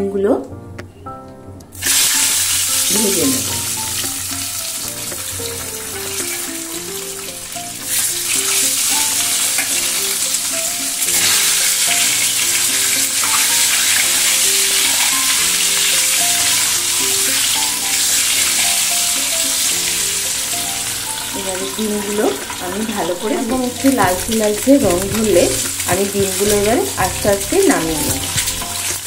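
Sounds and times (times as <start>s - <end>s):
soft background music: 0.0s - 29.0s
eggs sizzling in hot oil: 1.8s - 29.0s.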